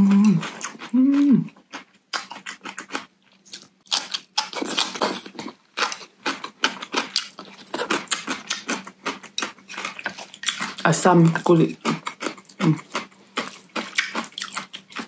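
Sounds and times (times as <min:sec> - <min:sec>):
wet crunchy chewing: 0:00.0 - 0:15.0.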